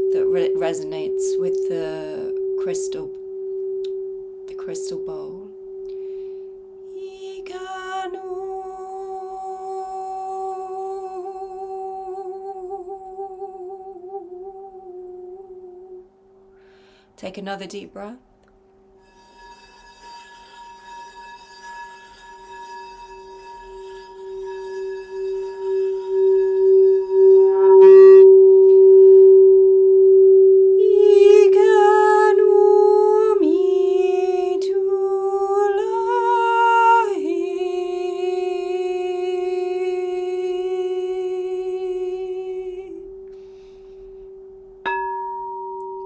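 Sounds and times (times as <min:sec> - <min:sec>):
person toning sliding notes: 0:00.0 - 0:16.1, 0:21.0 - 0:46.0
singing bowl low tone: 0:00.0 - 0:16.7, 0:19.0 - 0:46.0.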